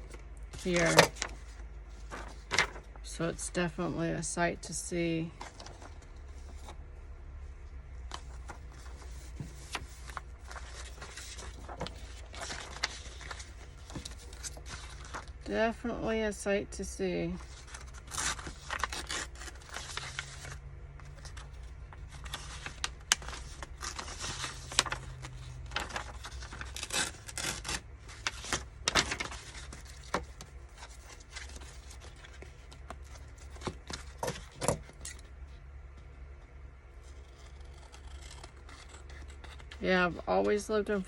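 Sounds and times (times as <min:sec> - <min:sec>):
paper rustling and scraping: 0:00.0 - 0:03.3, 0:05.3 - 0:06.8, 0:08.1 - 0:15.5, 0:17.4 - 0:35.6, 0:37.0 - 0:40.7
steady low hum: 0:00.0 - 0:41.0.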